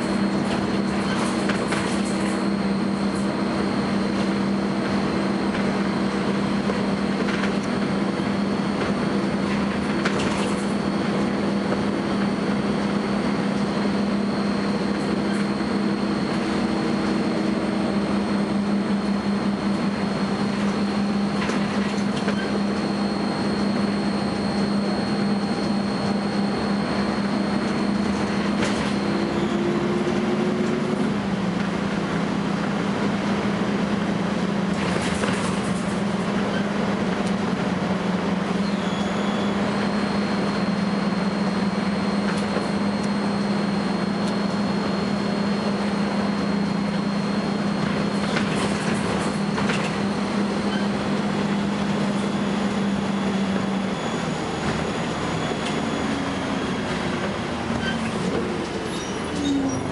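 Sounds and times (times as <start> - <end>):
bus engine and road noise: 0.0 - 59.9
high-pitched whine: 0.0 - 59.9.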